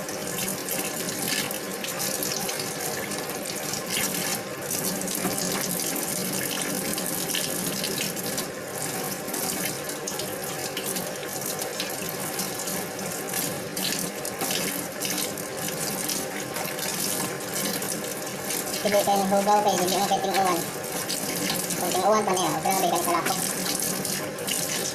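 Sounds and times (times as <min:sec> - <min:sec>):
tap water running into sink: 0:00.0 - 0:24.9.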